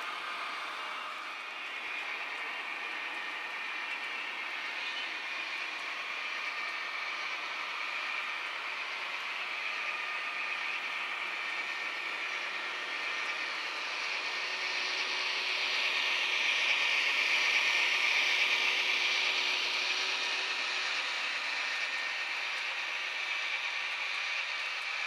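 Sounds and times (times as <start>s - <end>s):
model train whirring on track: 0.0s - 25.0s.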